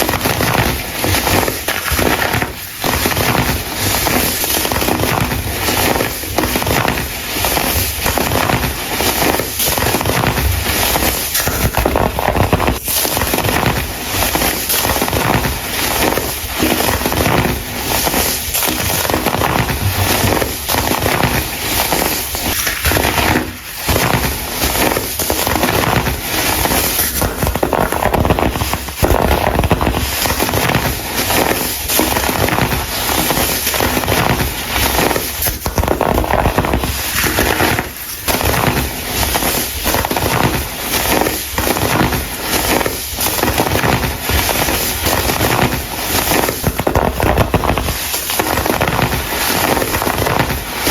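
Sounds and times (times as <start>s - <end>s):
crunchy crackle of crushing powder: 0.0s - 50.9s.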